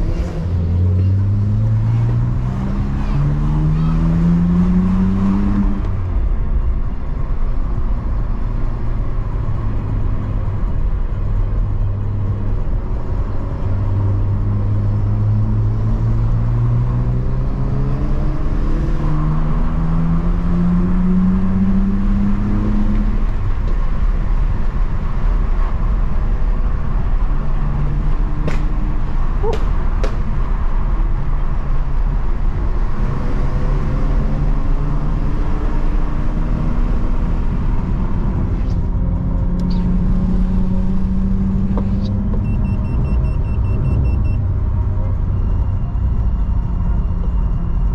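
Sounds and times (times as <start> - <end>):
car engine accelerating: 0.0 - 47.9
road rumble: 0.0 - 47.9.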